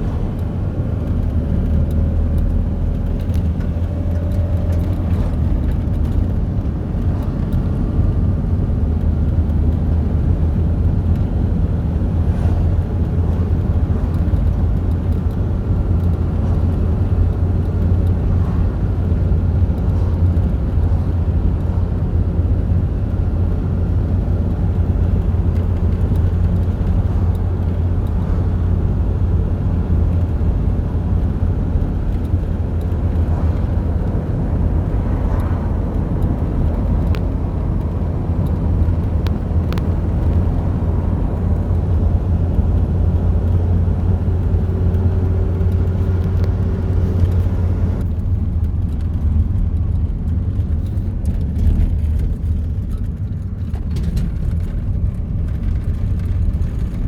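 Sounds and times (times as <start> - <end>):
motor vehicle rumble: 0.0 - 57.0.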